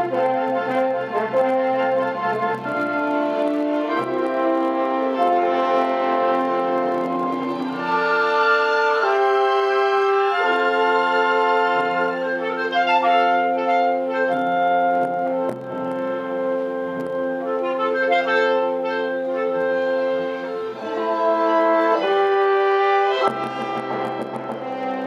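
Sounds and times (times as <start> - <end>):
orchestra playing classical music: 0.0 - 25.0.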